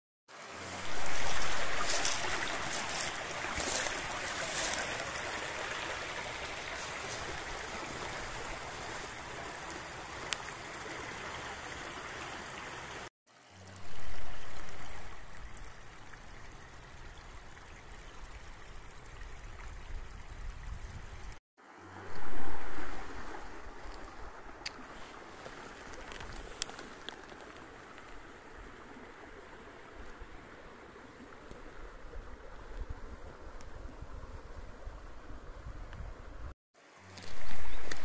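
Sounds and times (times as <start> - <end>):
stream trickling over stones: 0.3 - 36.1, 36.8 - 38.0.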